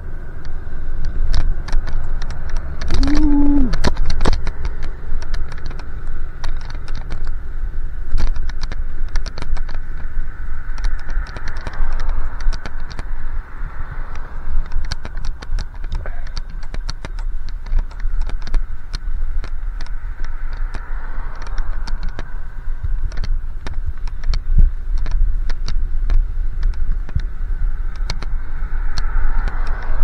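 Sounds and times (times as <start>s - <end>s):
bicycle clicks and rattles: 0.0s - 30.0s.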